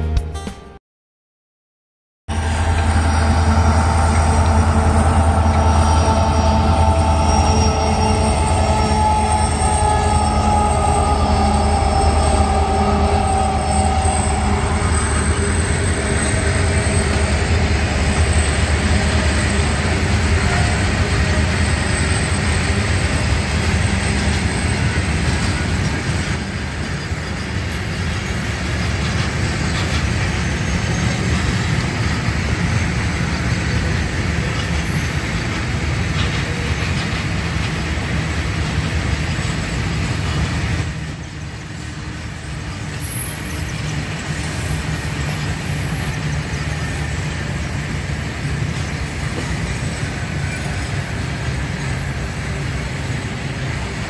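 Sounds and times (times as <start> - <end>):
train wheels rumbling on rails: 2.3 - 54.0.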